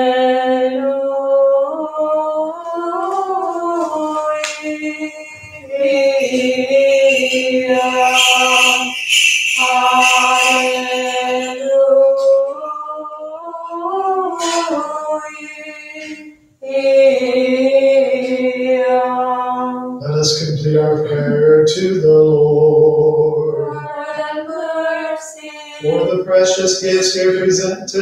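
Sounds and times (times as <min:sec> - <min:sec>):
voice chanting long held notes: 0:00.0 - 0:18.6, 0:19.3 - 0:28.0.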